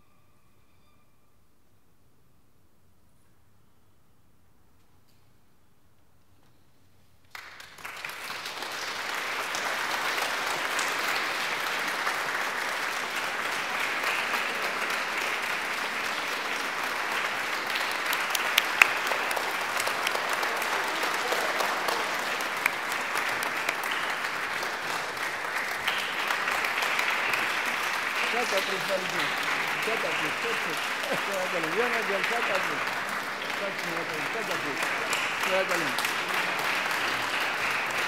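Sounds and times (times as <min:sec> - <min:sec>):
audience applauding: 0:07.3 - 0:38.0.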